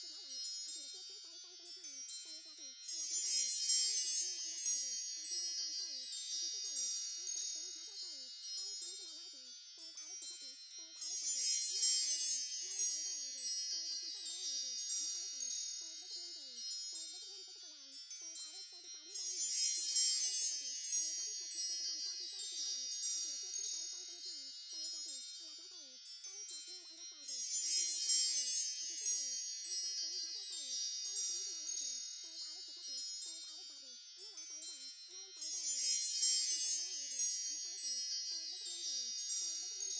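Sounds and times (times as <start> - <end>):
tinkling shimmering chimes: 0.0 - 39.9.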